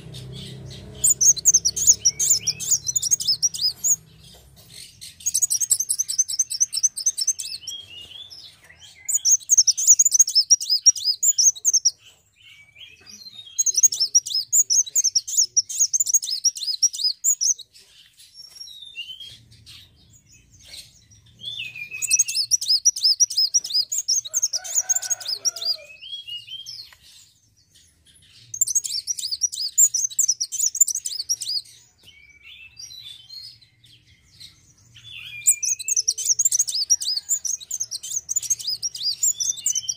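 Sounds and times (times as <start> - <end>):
bird chirps: 0.0 - 39.9
bird trilling song: 0.0 - 39.9.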